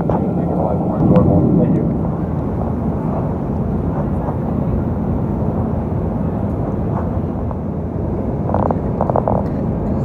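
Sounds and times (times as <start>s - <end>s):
airplane cabin roar: 0.0s - 10.0s.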